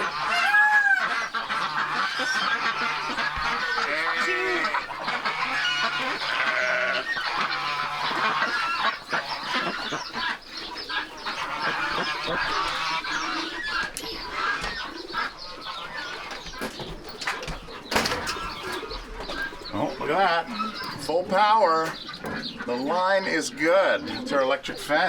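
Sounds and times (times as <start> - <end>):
poultry honking and clucking: 0.0 - 25.0.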